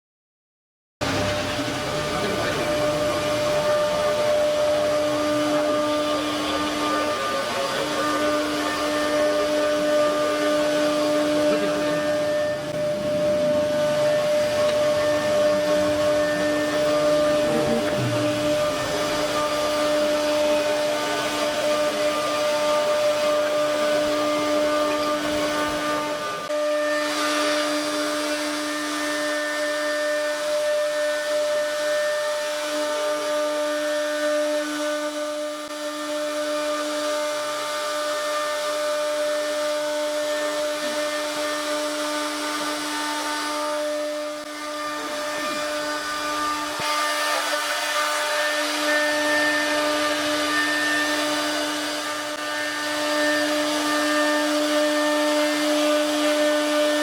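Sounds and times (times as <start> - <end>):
router spindle whining: 1.0 - 57.0.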